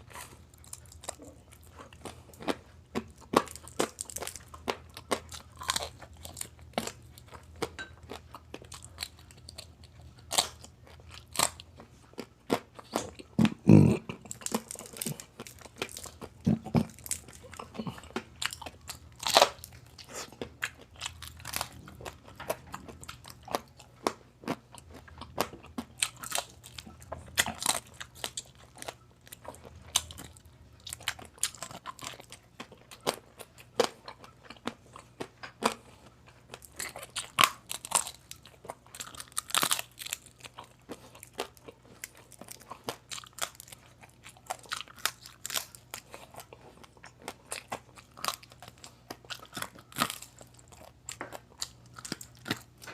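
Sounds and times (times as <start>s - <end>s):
crunching and chewing: 0.0s - 52.9s.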